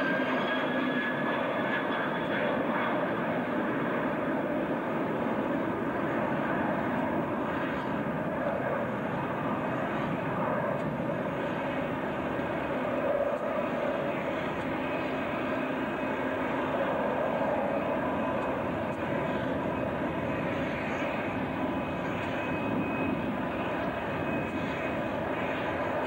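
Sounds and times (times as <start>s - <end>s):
airliner jet engines climbing: 0.0s - 26.0s.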